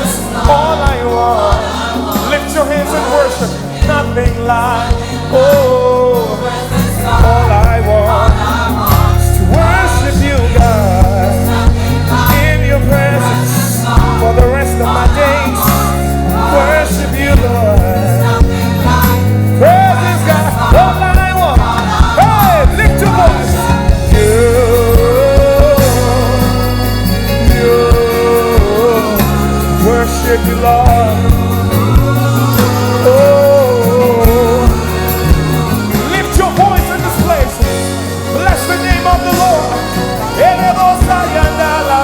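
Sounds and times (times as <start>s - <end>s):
live worship band music: 0.0s - 42.0s.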